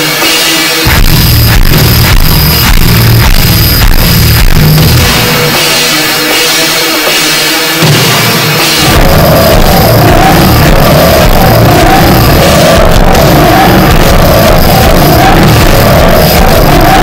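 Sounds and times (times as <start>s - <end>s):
distorted guitars: 0.0s - 17.0s
pounding drums: 0.0s - 17.0s.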